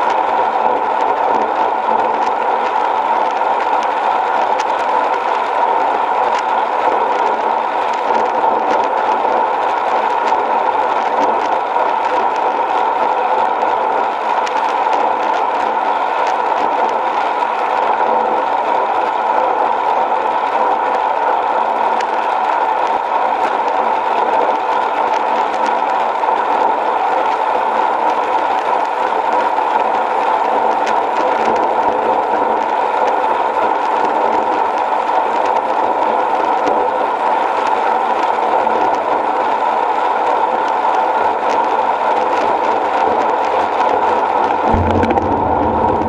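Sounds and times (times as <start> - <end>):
bicycle tyre and wind rush: 0.0 - 46.0.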